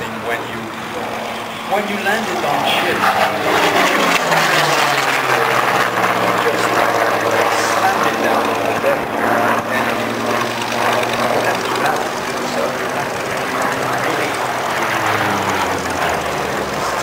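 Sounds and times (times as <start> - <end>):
propeller plane flying overhead: 0.0 - 17.0.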